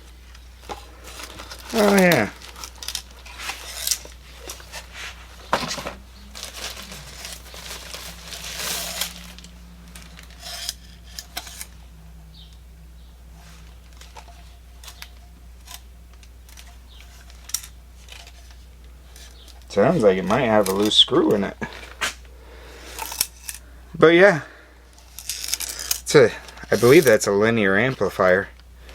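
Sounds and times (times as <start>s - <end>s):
device handling rustling: 0.0s - 23.7s.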